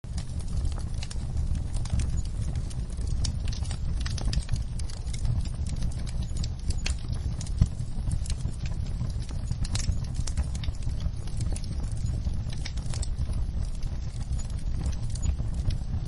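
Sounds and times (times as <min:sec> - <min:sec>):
low rumble of flames: 0:00.0 - 0:16.0
logs crackling and popping: 0:00.1 - 0:16.0.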